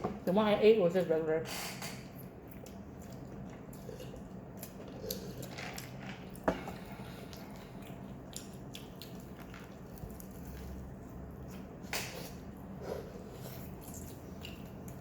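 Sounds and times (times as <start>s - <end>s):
chewing and biting food: 2.2s - 15.0s.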